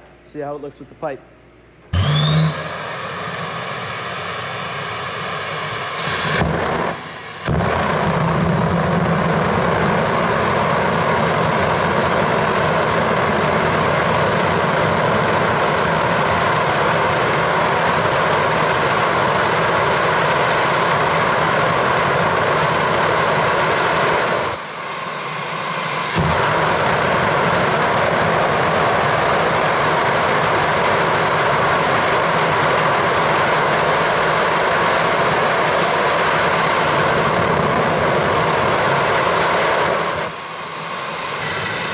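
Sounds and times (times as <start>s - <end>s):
jet engine afterburner rushing: 1.9s - 41.9s.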